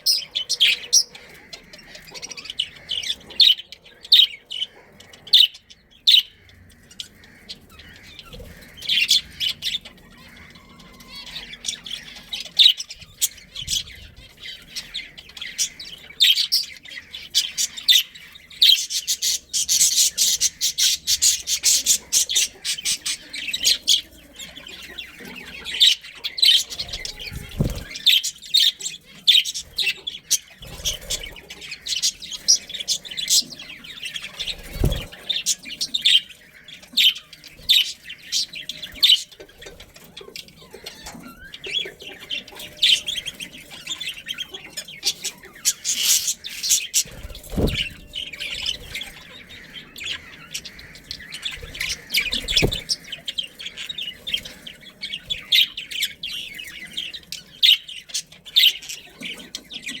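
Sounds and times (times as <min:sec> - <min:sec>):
budgerigars chattering and chirping: 0:00.0 - 1:00.0.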